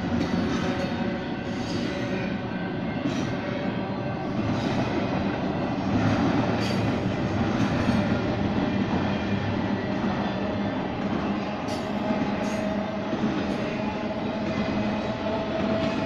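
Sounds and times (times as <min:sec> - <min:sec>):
steel train wheels rumbling on rails: 0:00.0 - 0:16.0.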